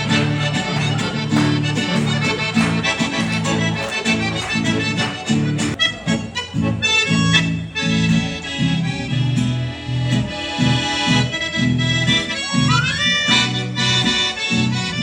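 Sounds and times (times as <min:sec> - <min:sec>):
accordion playing chords: 0:00.0 - 0:15.0.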